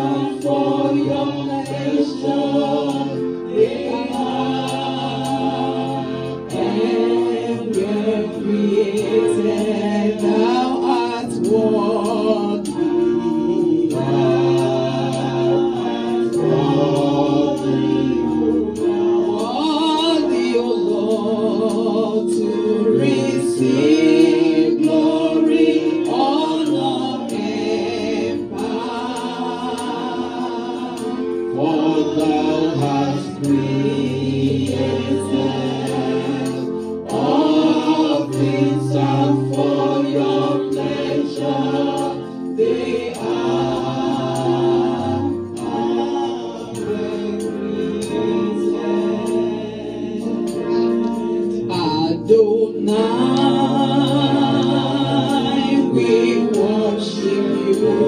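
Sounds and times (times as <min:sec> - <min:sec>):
held instrumental chords: 0:00.0 - 0:58.0
voices singing along: 0:00.0 - 0:58.0.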